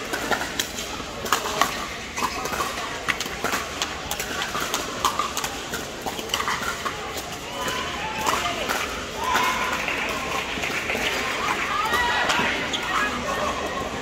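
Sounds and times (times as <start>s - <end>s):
paddles striking plastic balls: 0.0s - 12.7s.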